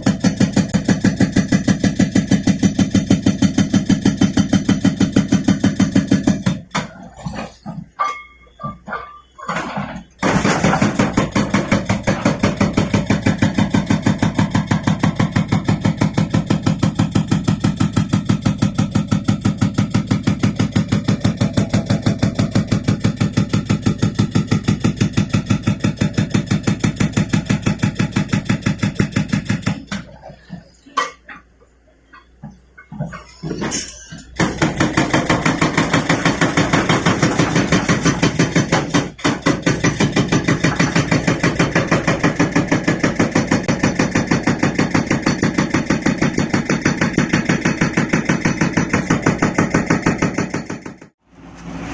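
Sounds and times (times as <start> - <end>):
hydraulic breaker hammering rock: 0.0 - 30.6, 32.8 - 51.2.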